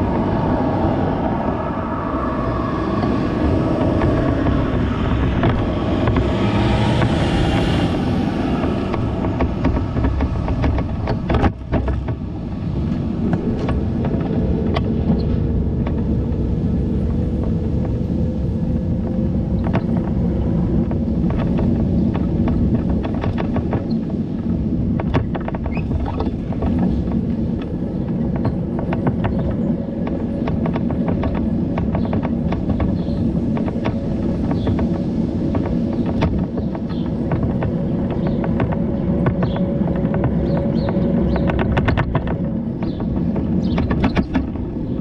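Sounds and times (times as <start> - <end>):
road and wind noise: 0.0 - 45.0.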